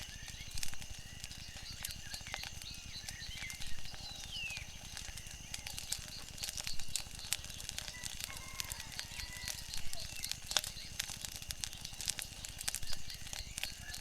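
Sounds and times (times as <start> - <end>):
small birds chirping: 0.0 - 14.0
wood fire crackling and popping: 0.0 - 14.0.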